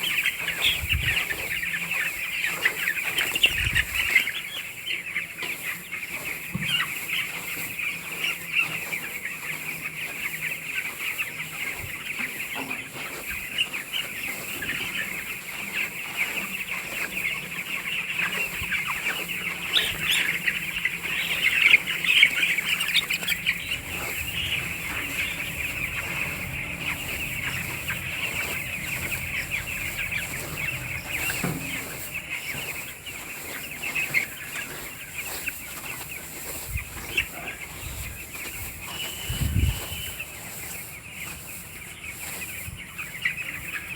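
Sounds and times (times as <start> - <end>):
flock of chickens calling: 0.0 - 43.9.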